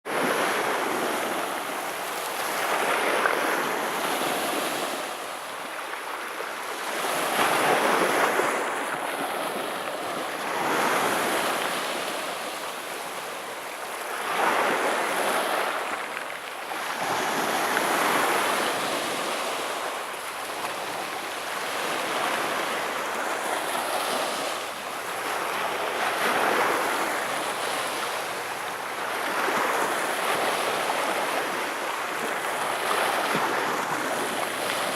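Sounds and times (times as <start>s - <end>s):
waves breaking on beach: 0.0s - 34.9s.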